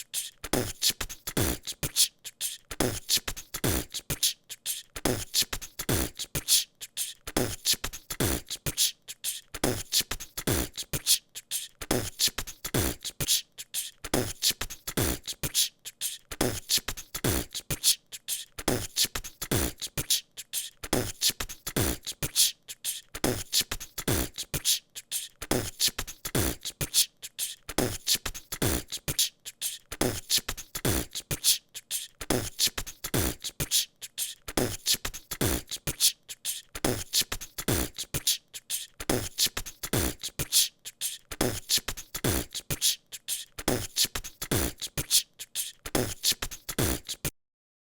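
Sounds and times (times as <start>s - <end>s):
person beatboxing: 0.0s - 47.4s.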